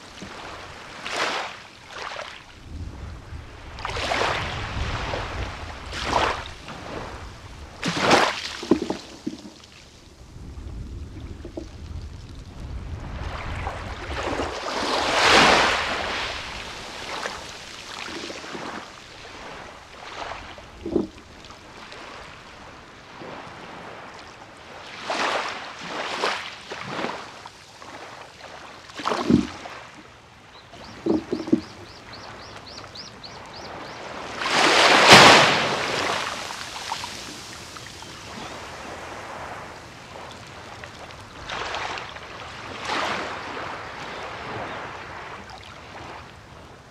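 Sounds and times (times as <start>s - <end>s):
small waves breaking on beach: 0.0s - 46.9s.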